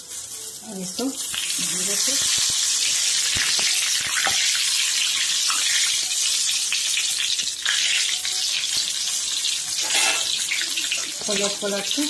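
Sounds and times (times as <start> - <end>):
brinjals sizzling in hot oil: 0.0 - 12.0.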